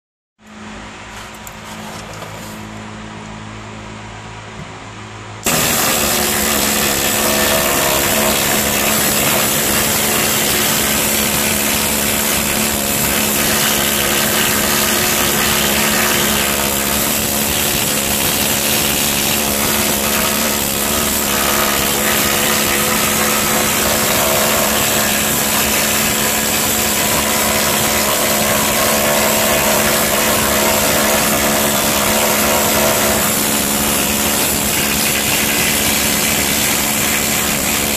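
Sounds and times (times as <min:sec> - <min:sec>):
air needle scaler hammering: 0:05.4 - 0:37.9.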